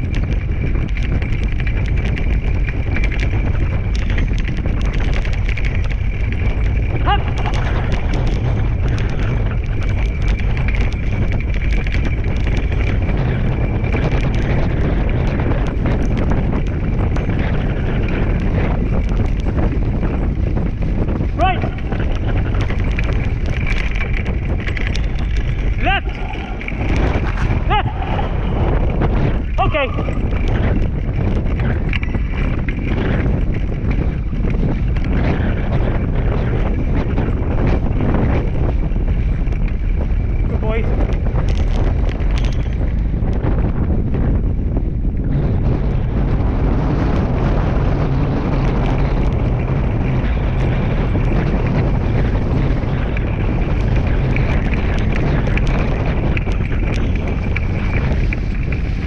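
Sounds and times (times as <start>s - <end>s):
dogs' paws pattering: 0.0s - 59.0s
wheels rolling over rough trail: 0.0s - 59.0s
wind rumble on microphone: 0.0s - 59.0s.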